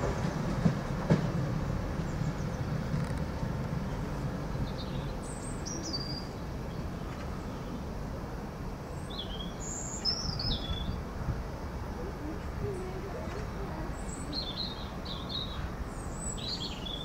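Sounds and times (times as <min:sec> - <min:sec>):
train rumble: 0:00.0 - 0:17.0
songbird chirping: 0:01.9 - 0:07.9, 0:08.9 - 0:17.0.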